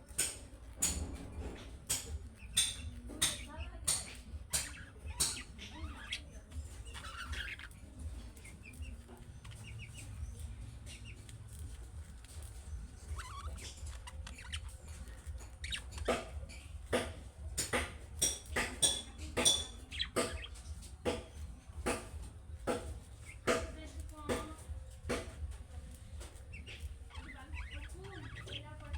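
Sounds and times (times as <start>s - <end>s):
budgerigars chattering: 1.9s - 11.8s, 12.5s - 24.4s, 26.1s - 28.9s.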